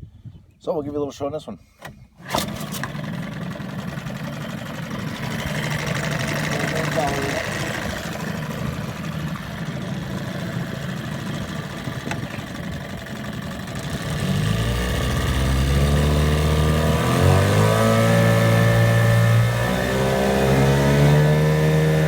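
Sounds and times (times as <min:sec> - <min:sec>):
outboard motor running: 0:02.2 - 0:22.0.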